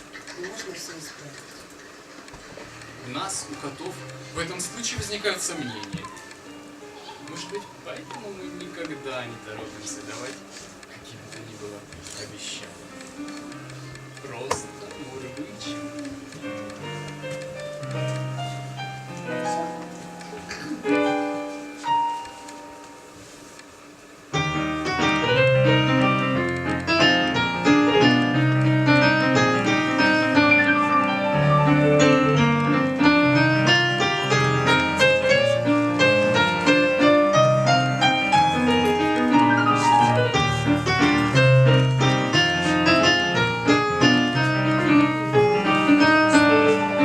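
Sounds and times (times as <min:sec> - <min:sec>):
fast piano music: 0:02.9 - 0:23.4, 0:24.3 - 0:47.0.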